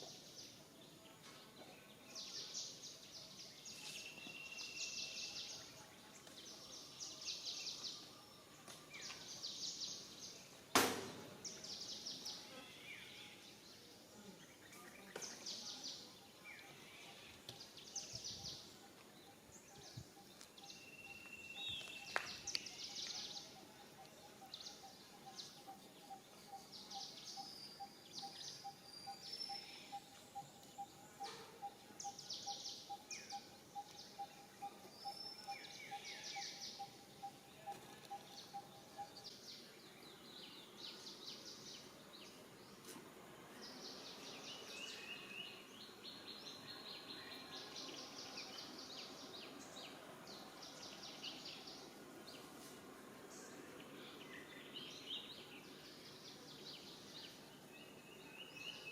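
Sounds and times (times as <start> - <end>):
birds chirping and trilling: 0.0 - 42.9, 53.2 - 58.9.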